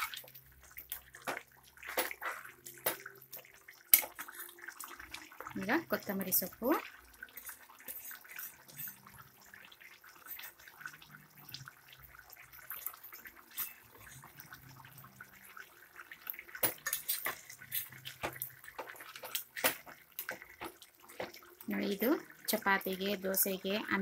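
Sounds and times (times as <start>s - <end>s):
gravy bubbling and popping: 0.0s - 24.0s.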